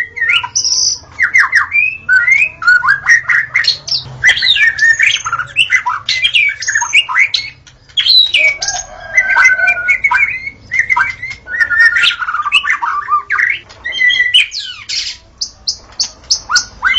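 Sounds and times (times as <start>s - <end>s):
bird singing whistles and trills: 0.0s - 16.9s.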